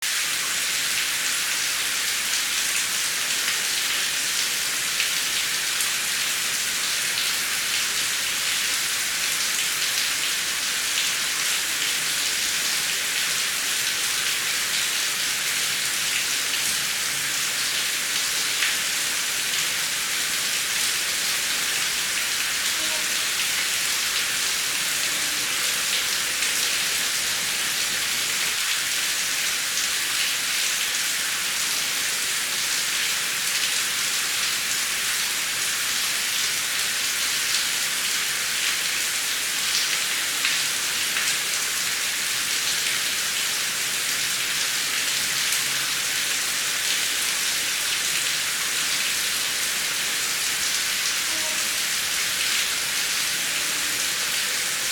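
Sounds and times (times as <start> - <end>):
heavy rain falling: 0.1 - 54.9.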